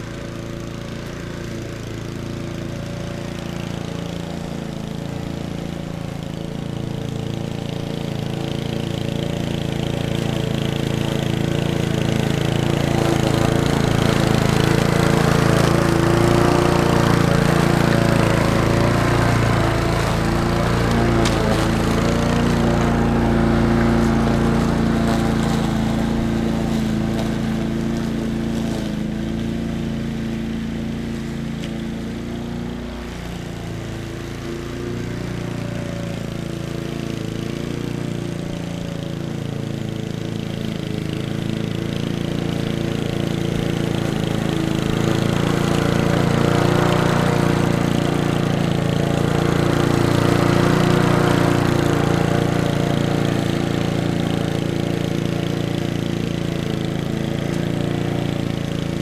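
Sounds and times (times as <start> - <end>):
lawn mower running: 0.0 - 59.0.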